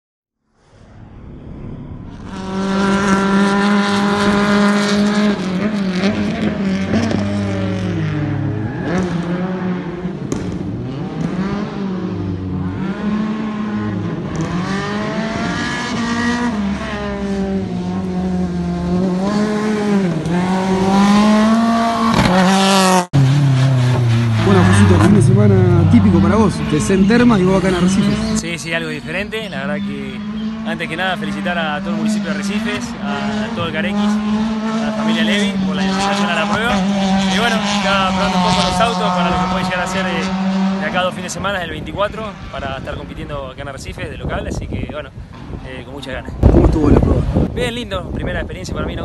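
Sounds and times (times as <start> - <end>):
rally car engine revving: 0.6 - 49.0.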